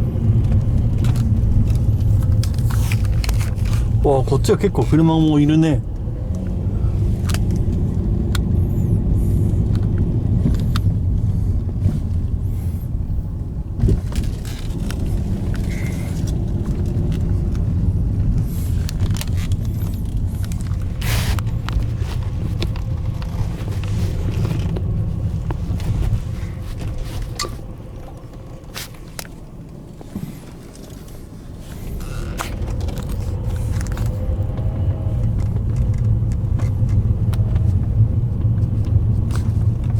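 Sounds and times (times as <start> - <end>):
car cabin rumble: 0.0 - 39.9.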